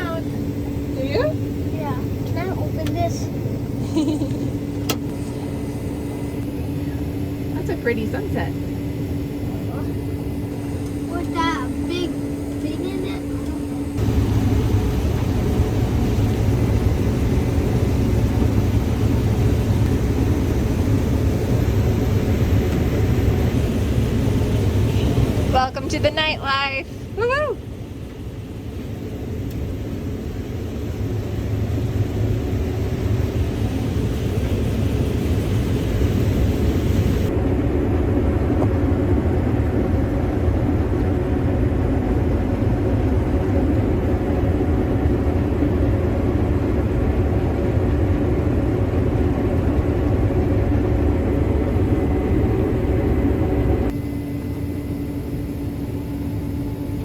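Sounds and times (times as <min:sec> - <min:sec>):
combine harvester rumbling: 0:00.0 - 0:54.0.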